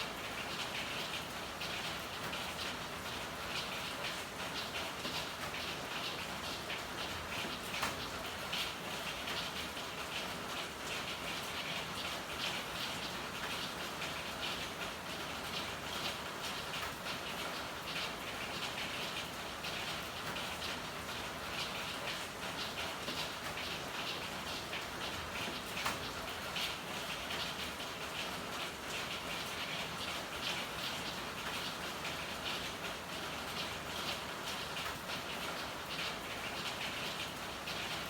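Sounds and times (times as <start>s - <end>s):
rain pattering on hard surfaces: 0.0s - 38.0s.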